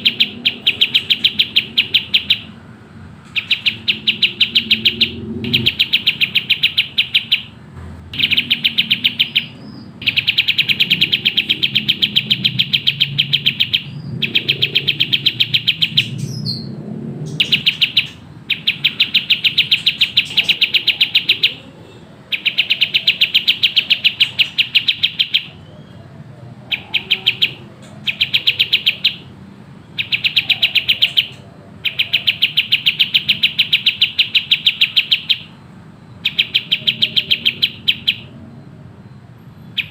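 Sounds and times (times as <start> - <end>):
songbird rapid stuttering song: 0.0 - 2.6, 3.2 - 25.7, 26.6 - 35.6, 36.2 - 38.3.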